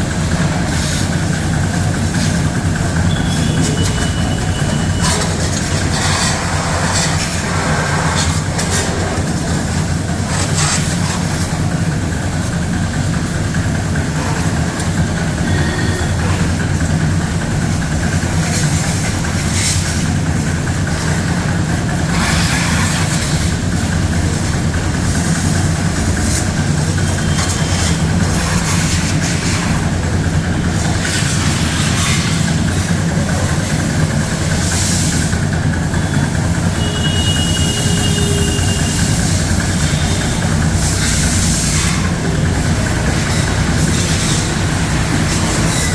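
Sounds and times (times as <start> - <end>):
pressure washer motor hum: 0.0 - 45.9
hissing spray: 0.1 - 45.9.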